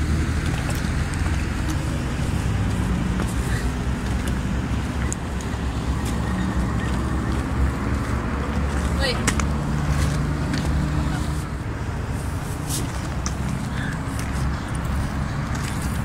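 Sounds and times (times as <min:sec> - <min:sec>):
steady low rumble: 0:00.0 - 0:16.0
footsteps on gravel: 0:00.4 - 0:16.0.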